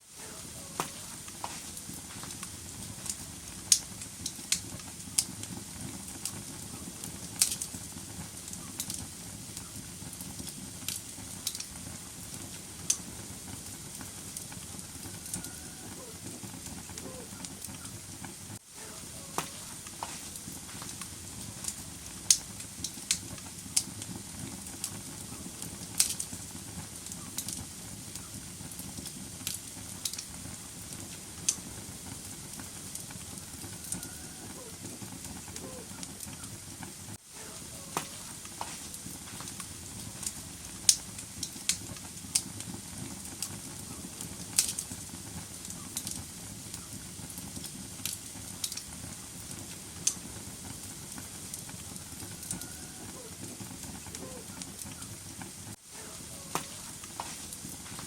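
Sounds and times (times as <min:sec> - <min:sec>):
low rush of flames: 0:00.0 - 0:58.0
fire pops and snaps: 0:00.2 - 0:58.0.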